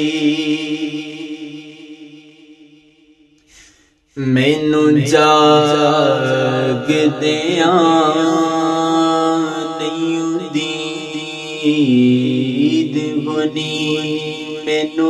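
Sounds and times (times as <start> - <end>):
man singing ornamented melody: 0.0 - 2.4, 4.2 - 15.0.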